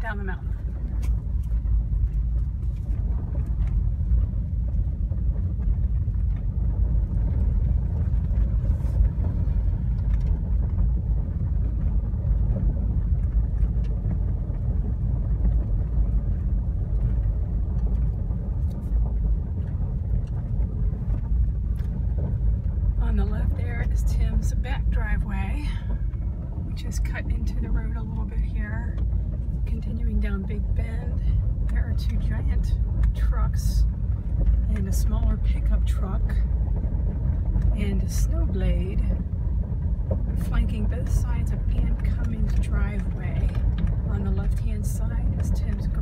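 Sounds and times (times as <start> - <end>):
car tyres and engine rumbling on gravel: 0.0 - 46.0.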